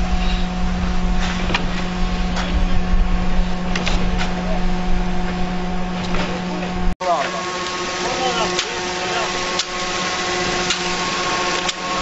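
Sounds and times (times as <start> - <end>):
concrete pump engine drone: 0.0 - 12.0.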